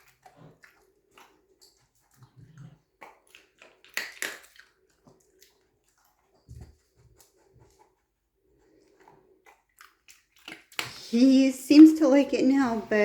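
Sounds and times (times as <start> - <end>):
dog chewing food: 0.0 - 11.2.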